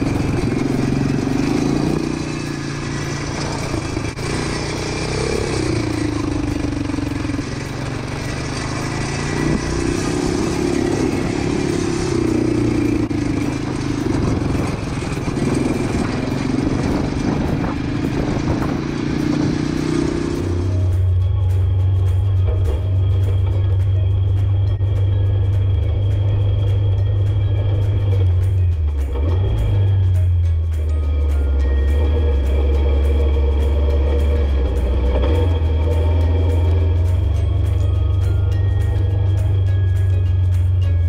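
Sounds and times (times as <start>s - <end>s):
quad bike engine running: 0.0s - 41.0s
wind and tyre noise: 0.0s - 41.0s.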